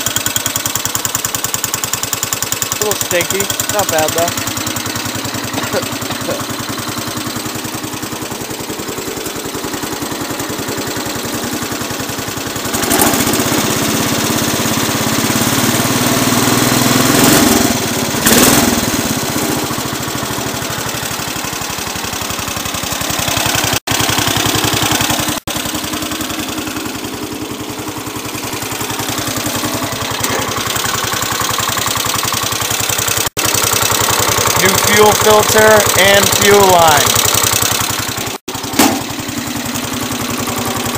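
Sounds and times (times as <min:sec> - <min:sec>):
single-cylinder engine running: 0:00.0 - 0:40.9.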